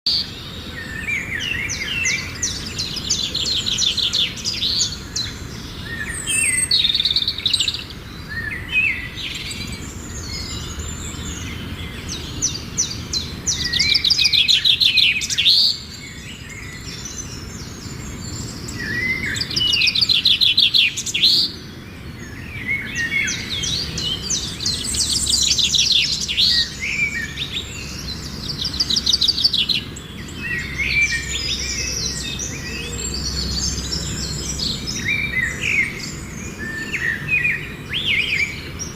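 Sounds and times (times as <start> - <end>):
songbirds trilling: 0.1 - 38.9.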